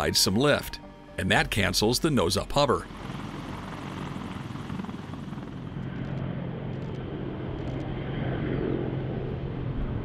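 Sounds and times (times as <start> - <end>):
helicopter running: 0.0 - 10.0.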